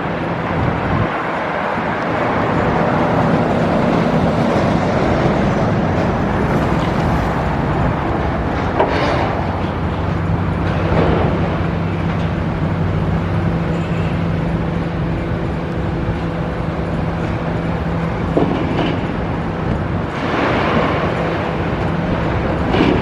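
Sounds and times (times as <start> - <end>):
heavy machinery engine droning: 0.0 - 23.0.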